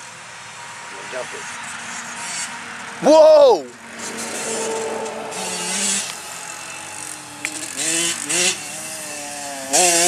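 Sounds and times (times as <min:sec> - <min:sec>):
distant dirt bike engine revving: 0:01.6 - 0:10.0.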